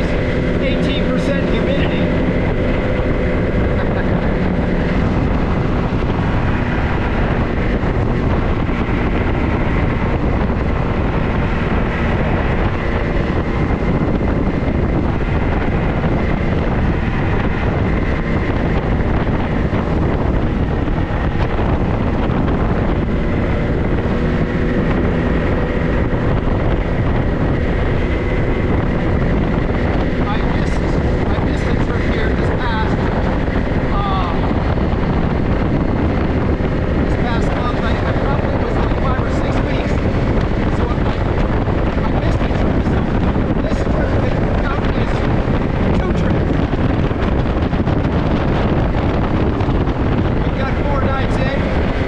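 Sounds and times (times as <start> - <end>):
vehicle engine and road noise: 0.0 - 52.0
wind buffeting microphone: 0.0 - 52.0.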